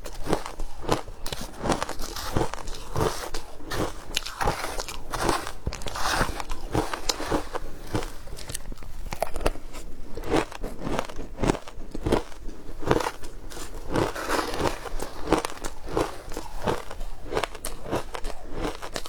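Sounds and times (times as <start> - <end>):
ice crunching being chewed: 0.0 - 19.0.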